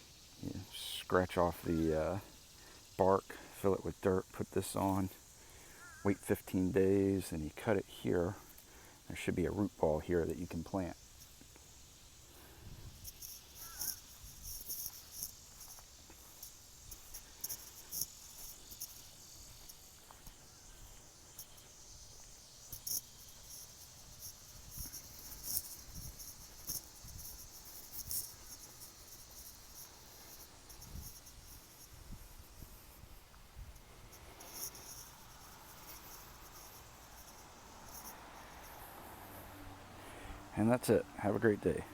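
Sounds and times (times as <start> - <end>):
insects chirring: 0.0 - 41.9.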